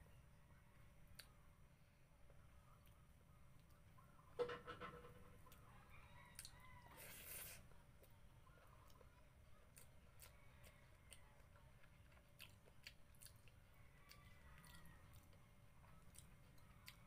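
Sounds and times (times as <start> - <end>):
faint chewing: 1.0 - 1.5, 2.2 - 4.1, 5.4 - 17.0.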